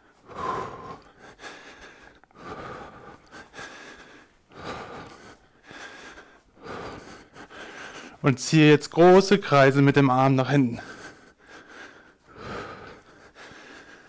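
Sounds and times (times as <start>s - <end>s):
man breathing hard: 0.0s - 8.2s, 10.8s - 14.0s.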